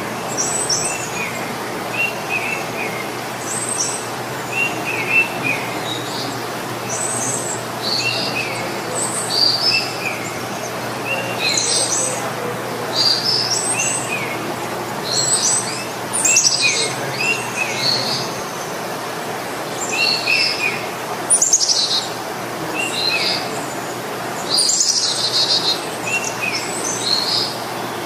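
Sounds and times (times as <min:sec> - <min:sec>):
birds chirping and trilling: 0:00.0 - 0:28.0
steady background hiss: 0:00.0 - 0:28.0.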